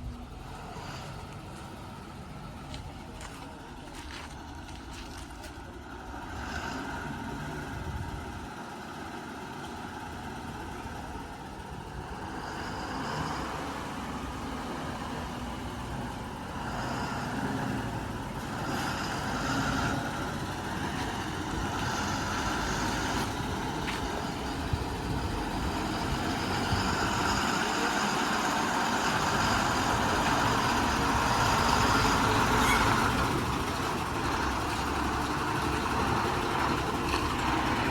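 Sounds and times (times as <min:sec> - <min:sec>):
heavy diesel engine running: 0:00.0 - 0:37.9.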